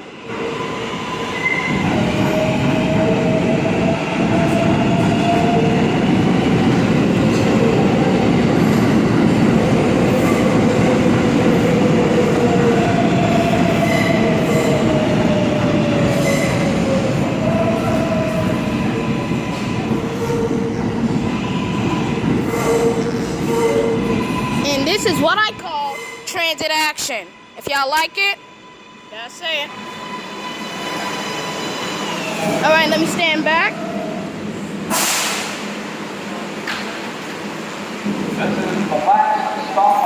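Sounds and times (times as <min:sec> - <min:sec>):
train wheels rumbling on rail: 0:00.0 - 0:28.2, 0:29.7 - 0:40.0.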